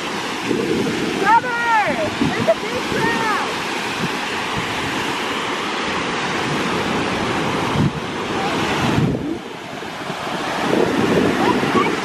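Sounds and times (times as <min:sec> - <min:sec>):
surf breaking on sandy shore: 0:00.0 - 0:12.0
wind buffeting microphone: 0:00.0 - 0:12.0.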